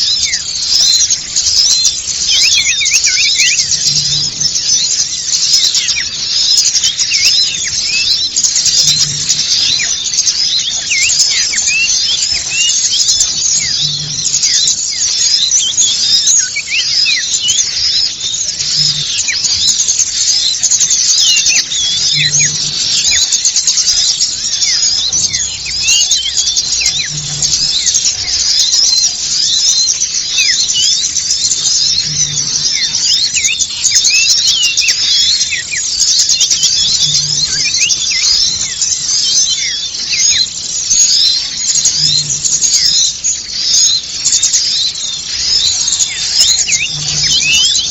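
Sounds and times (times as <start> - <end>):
flock of small birds chirping: 0.0 - 47.9.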